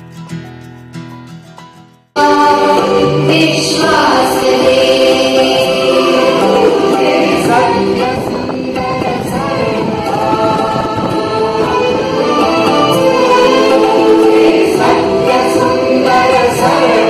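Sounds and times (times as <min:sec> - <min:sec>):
voices singing held chords: 0:02.2 - 0:17.0.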